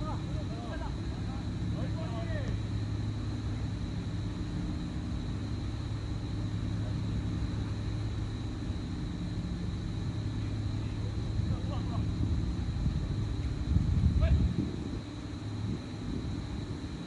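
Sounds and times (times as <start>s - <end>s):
faint high whine: 0.0s - 17.0s
low mechanical hum: 0.0s - 17.0s.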